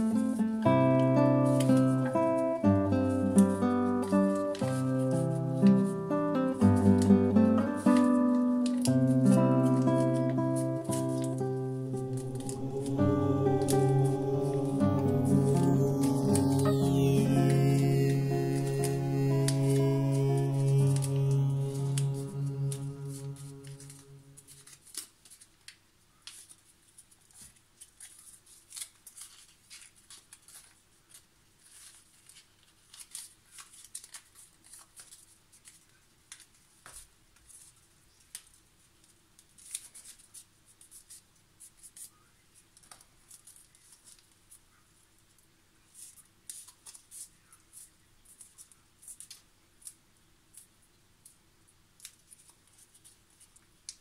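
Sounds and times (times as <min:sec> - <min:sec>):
paper crinkling and rustling: 0:00.0 - 0:51.4, 0:52.0 - 0:54.0.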